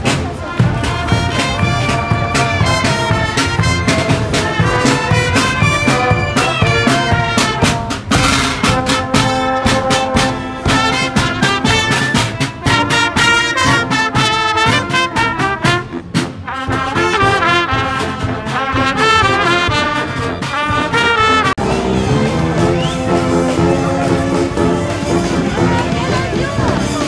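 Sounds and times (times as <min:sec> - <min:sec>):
marching brass band playing: 0:00.0 - 0:27.0.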